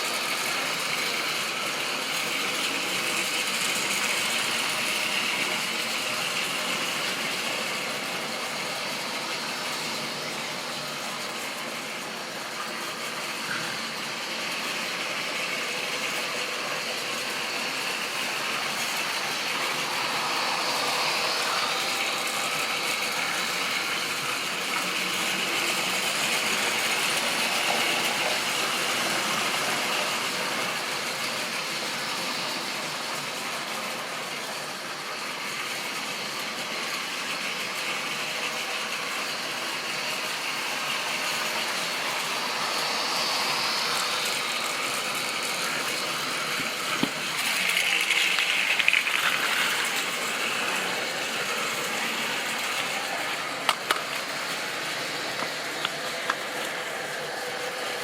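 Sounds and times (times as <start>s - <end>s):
model train motor whirring: 0.0s - 58.0s.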